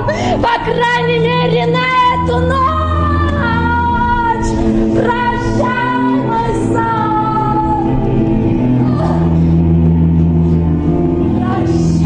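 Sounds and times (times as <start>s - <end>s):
low sustained accompaniment: 0.0s - 12.0s.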